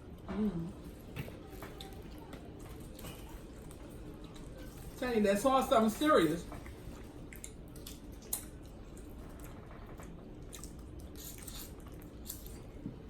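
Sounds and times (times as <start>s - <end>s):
wet squishing and chewing: 0.0s - 5.0s, 6.4s - 13.0s.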